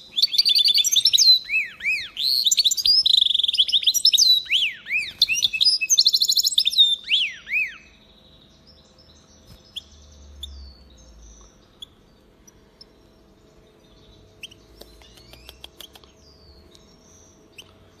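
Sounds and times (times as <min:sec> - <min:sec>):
finch twittering song: 0:00.0 - 0:18.0.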